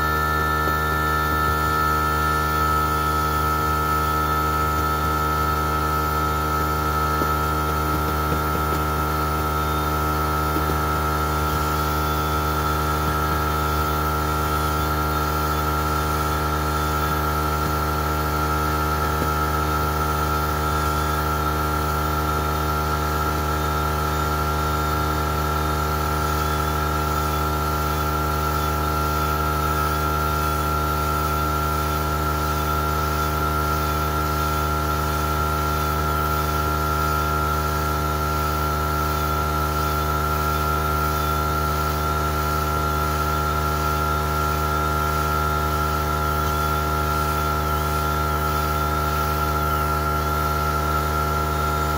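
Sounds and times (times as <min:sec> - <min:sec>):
machine drone with high whine: 0:00.0 - 0:51.9.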